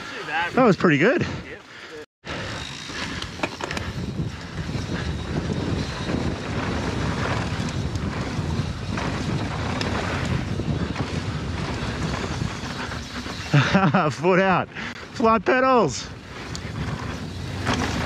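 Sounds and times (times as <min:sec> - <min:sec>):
bike clicking and rattling: 0:00.0 - 0:18.0
tyres on dirt: 0:01.5 - 0:15.1, 0:15.7 - 0:18.0
wind rush on microphone: 0:02.3 - 0:18.0.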